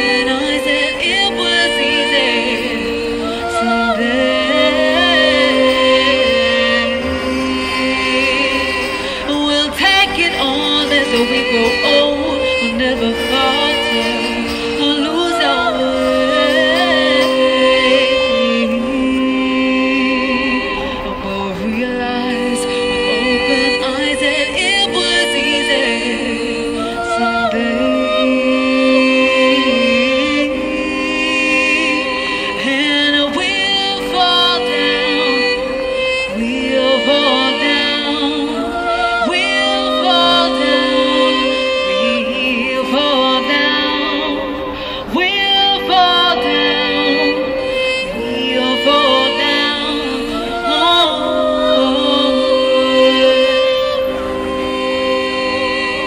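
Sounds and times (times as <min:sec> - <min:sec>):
held backing chords: 0:00.0 - 0:56.0
woman singing into a microphone: 0:00.0 - 0:56.0.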